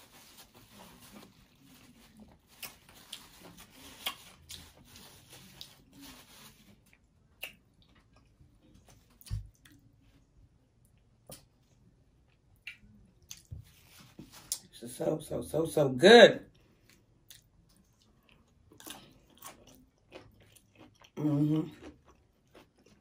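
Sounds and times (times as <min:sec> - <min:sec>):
person chewing food: 0:00.1 - 0:14.7, 0:16.5 - 0:23.0.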